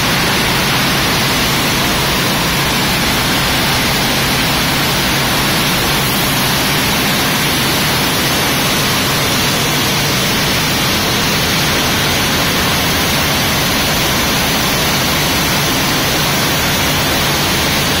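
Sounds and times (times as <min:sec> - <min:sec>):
hiss-like machinery din: 0:00.0 - 0:18.0.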